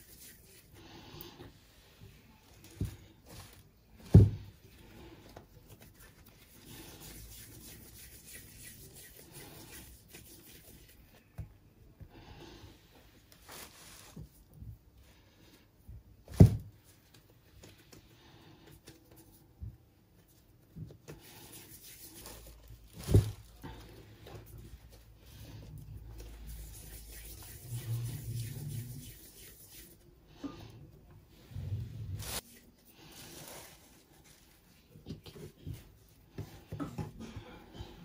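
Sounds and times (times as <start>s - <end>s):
dough rubbing and rustling: 0.0s - 15.6s, 18.9s - 38.0s.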